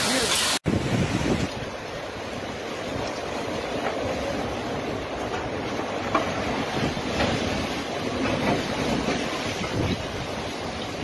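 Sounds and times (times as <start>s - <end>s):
strong storm wind: 0.0s - 11.0s.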